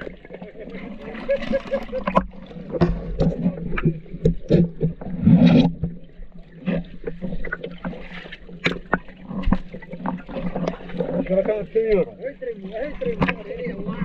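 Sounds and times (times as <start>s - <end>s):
water sloshing and splashing: 0.0s - 14.0s
clicks and drips: 1.4s - 14.0s.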